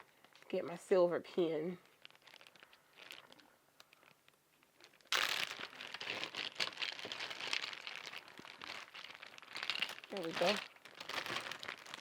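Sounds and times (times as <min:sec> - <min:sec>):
faint handling sounds: 0:00.0 - 0:12.0
packaging crinkling: 0:01.8 - 0:12.0.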